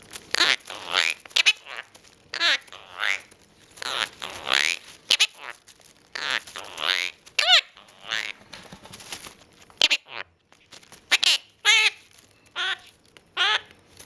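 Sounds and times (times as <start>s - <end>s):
parrot calls and chatter: 0.0s - 14.0s.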